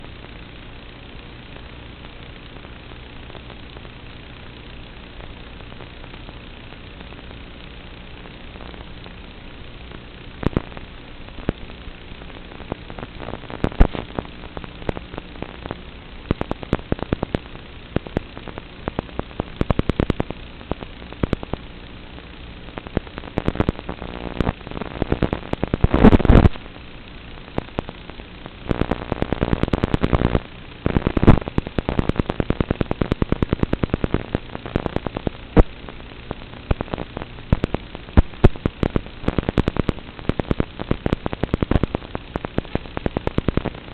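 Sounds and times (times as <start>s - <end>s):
faint hum: 0.0s - 43.9s
sharp crackling pops: 0.0s - 43.9s
static hiss: 0.0s - 43.9s.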